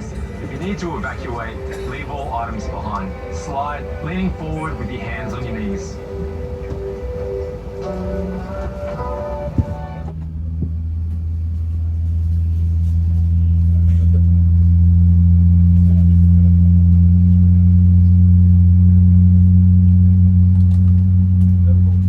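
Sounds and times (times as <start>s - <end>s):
aircraft cabin hum: 0.0s - 18.7s.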